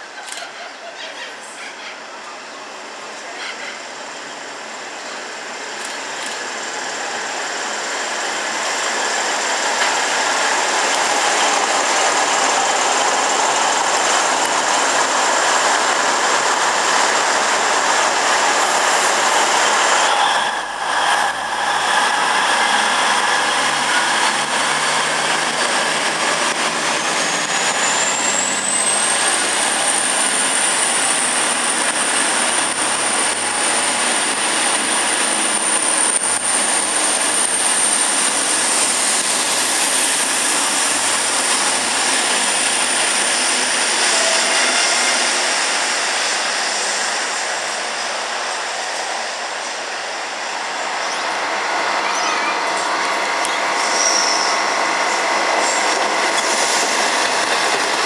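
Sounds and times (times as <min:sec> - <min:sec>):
train engines and wheels rumbling: 0:00.0 - 0:58.0.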